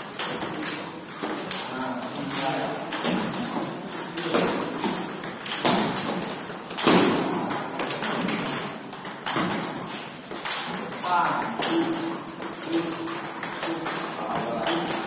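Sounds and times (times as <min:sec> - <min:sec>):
table tennis ball hitting paddles: 0:00.0 - 0:15.0
ball bouncing on table: 0:00.1 - 0:15.0.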